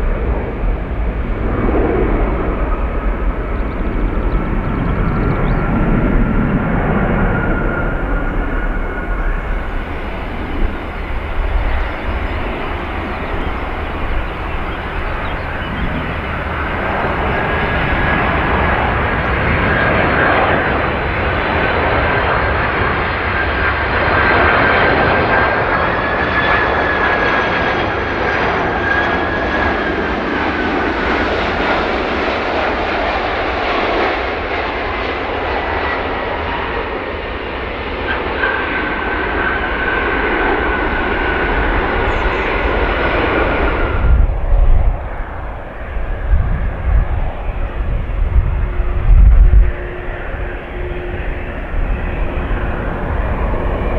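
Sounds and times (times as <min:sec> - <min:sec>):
jet engines roaring and whining: 0:00.0 - 0:53.9.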